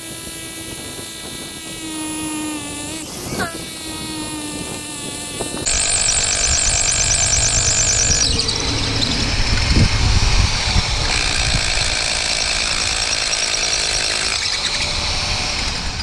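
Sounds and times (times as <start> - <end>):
rotary hammer drilling into concrete: 0.0 - 16.0.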